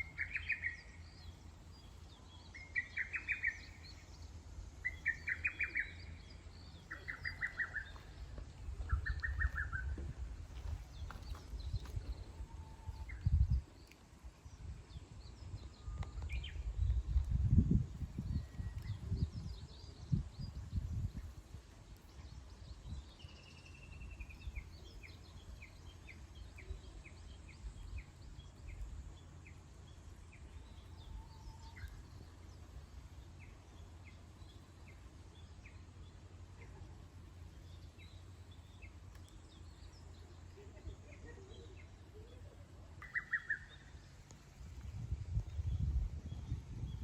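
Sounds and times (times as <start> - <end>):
birds chirping: 0.0 - 14.1, 22.1 - 47.0
steady low rumble: 0.0 - 47.0.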